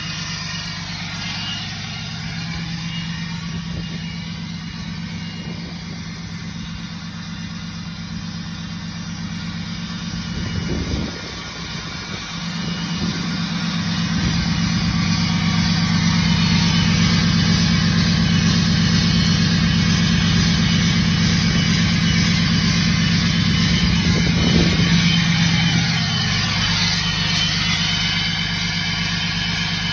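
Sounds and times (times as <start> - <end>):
diesel engine at high idle: 0.0 - 29.9
turbo whistling: 0.0 - 29.9.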